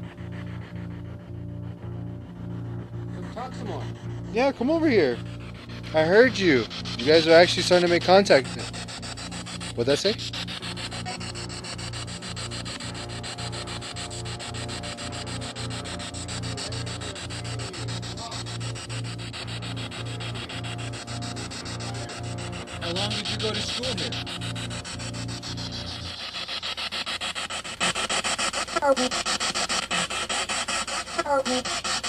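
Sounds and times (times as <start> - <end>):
low hum: 0.0 - 28.6
radio static chopping: 3.0 - 32.0
garbled voice-like fragments: 5.8 - 32.0.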